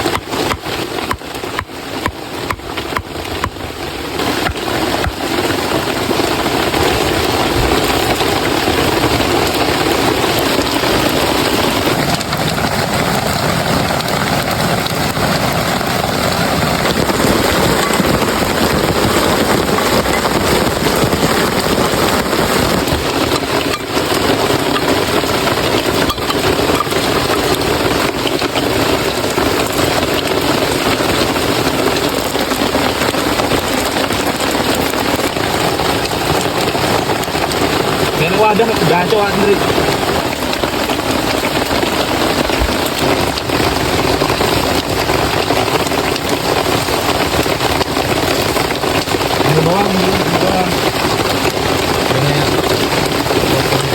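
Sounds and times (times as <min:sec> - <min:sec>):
heavy rain in forest: 0:00.0 - 0:53.9.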